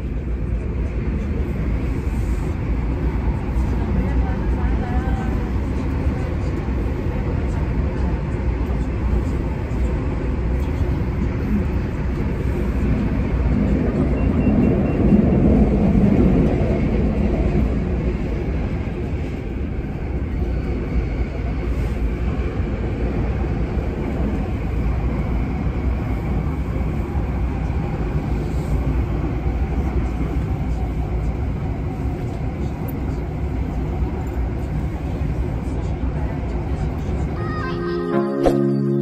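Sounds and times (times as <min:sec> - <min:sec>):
rail and air hiss: 0:00.0 - 0:37.8
train rumbling inside carriage: 0:00.0 - 0:39.0.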